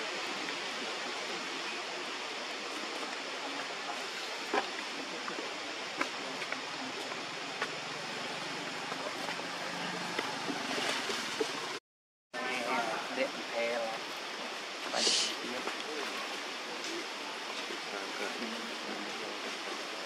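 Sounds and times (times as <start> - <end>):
steady outdoor hiss: 0.0 - 11.8, 12.4 - 20.0.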